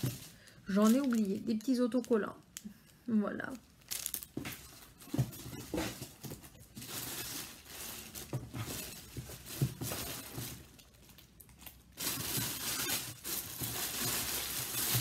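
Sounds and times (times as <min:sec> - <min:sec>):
packaging crinkling and tearing: 0:00.0 - 0:03.0, 0:03.7 - 0:15.0.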